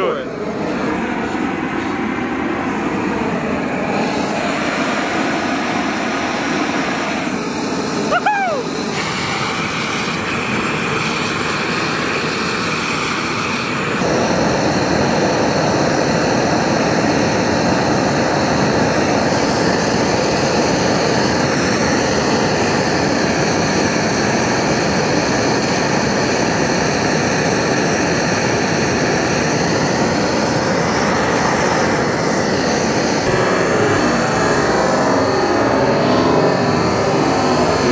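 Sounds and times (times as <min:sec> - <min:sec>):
gas burner flame rushing: 0:00.0 - 0:37.9.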